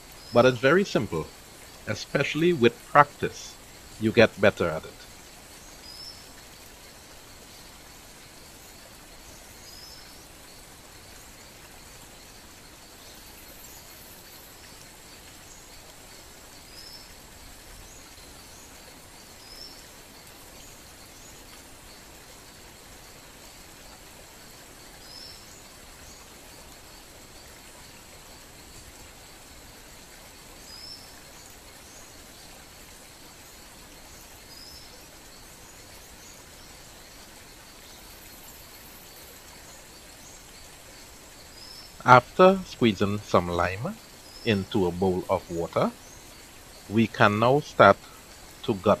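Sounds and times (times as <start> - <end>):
outdoor background hiss: 0.0 - 49.0.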